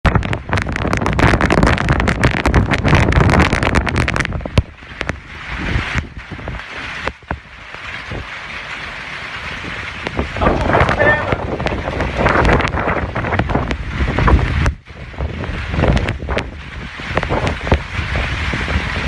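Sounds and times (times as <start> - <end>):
hailstones clattering on hard surfaces: 0.1 - 19.0
hiss of falling hail and rain: 0.1 - 19.0.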